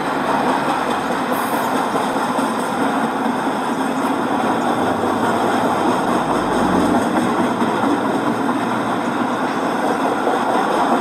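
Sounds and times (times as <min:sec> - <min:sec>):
model train wheels on rails: 0:00.0 - 0:11.0.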